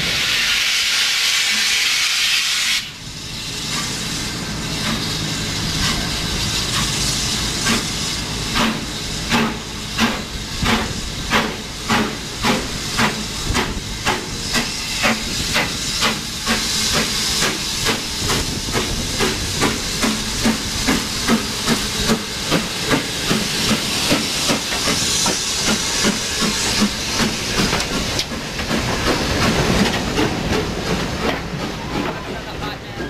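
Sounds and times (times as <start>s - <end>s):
hiss of escaping steam: 0.0s - 31.9s
steam locomotive exhaust chuffs: 0.0s - 32.2s.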